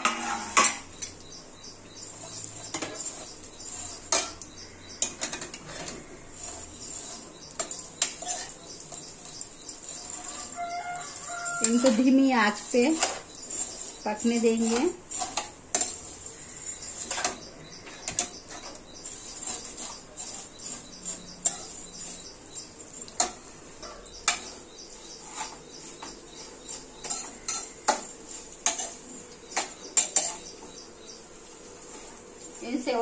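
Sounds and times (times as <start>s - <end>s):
spoon scraping a pan: 0.0s - 33.0s.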